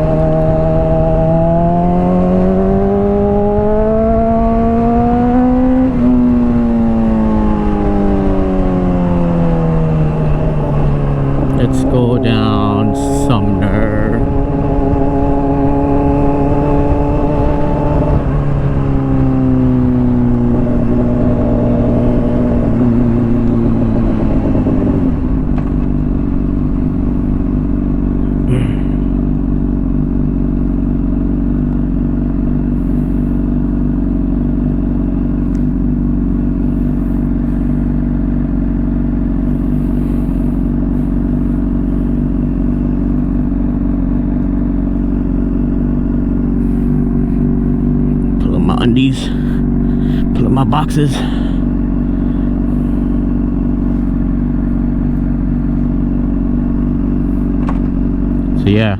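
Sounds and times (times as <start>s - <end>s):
motorcycle engine downshifting: 0.0s - 58.8s
motorcycle engine idling: 0.0s - 58.9s.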